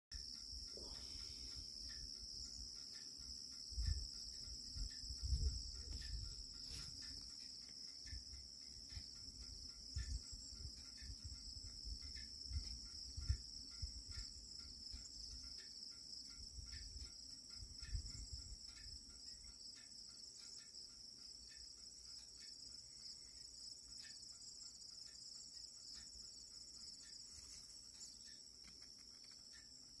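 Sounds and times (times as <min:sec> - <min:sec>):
insects chirping in grass: 0:00.1 - 0:30.0.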